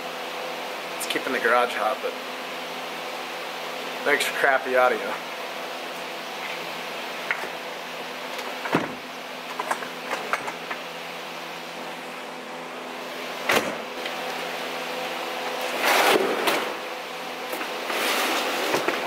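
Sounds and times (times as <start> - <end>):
fan heater humming: 0.0 - 19.0.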